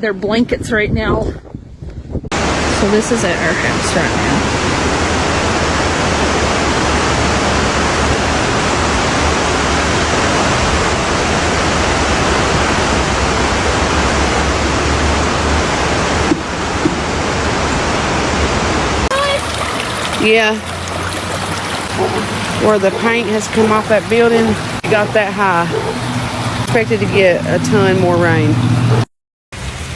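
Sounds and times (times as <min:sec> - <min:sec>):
floodwater rushing: 0:02.3 - 0:29.1.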